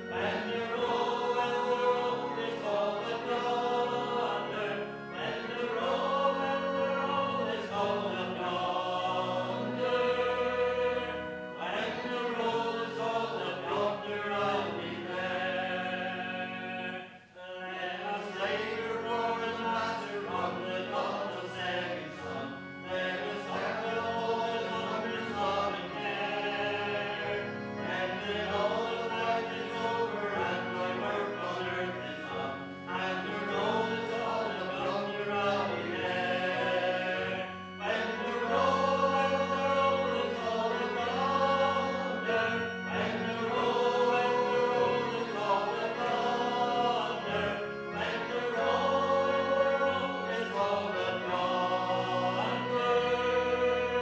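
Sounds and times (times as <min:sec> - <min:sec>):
congregation singing a hymn: 0:00.0 - 0:54.0
instrumental accompaniment: 0:00.0 - 0:54.0.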